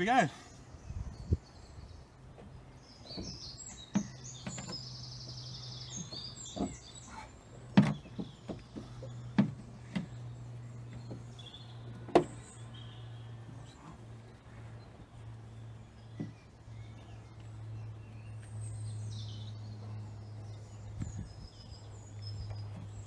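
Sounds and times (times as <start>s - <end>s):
birds chirping: 0.0s - 23.0s
steady low hum: 0.3s - 23.0s.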